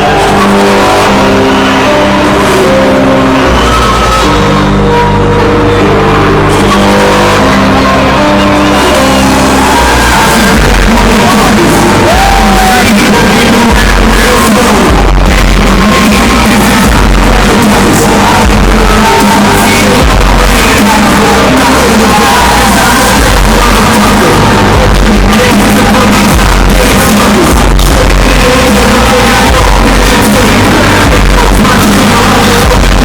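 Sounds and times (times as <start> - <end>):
crowd shouting along: 0.0 - 33.0
loud hardstyle music: 0.0 - 33.0.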